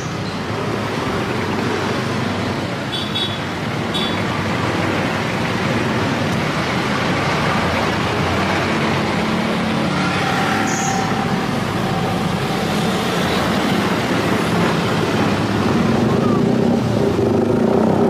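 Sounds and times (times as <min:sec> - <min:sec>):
cars passing: 0:00.0 - 0:18.0
engines humming: 0:00.0 - 0:18.0.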